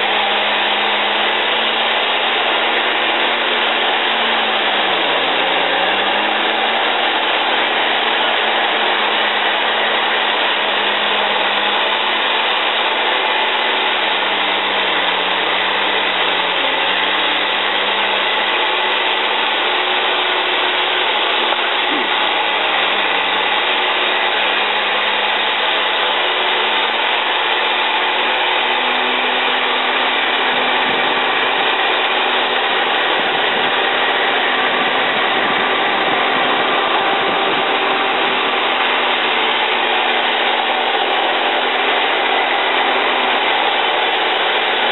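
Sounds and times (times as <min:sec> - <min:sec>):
forestry mulcher grinding wood: 0:00.0 - 0:44.9.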